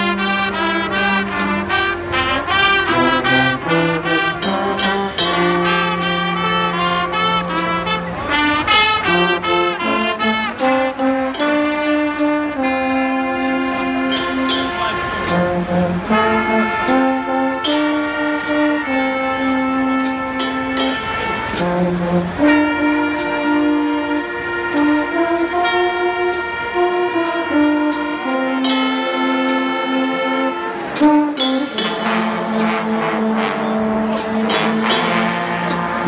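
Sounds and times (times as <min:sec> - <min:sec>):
brass band chords: 0:00.0 - 0:36.0.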